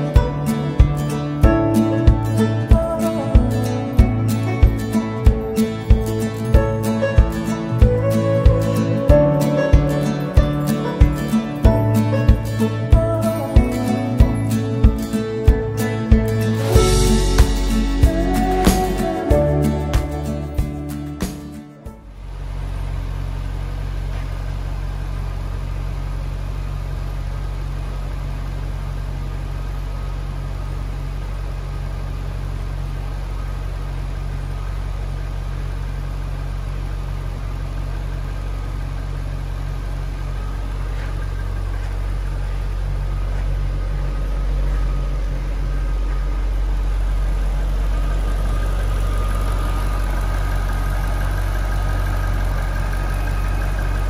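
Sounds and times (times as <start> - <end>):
car engine idling: 0.0 - 54.0
high supercharger whine: 0.0 - 54.0.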